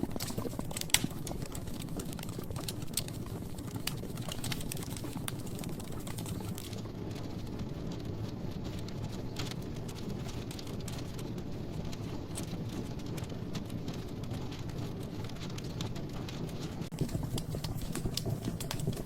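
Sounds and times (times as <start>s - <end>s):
fire crackling in fireplace: 0.0s - 19.0s.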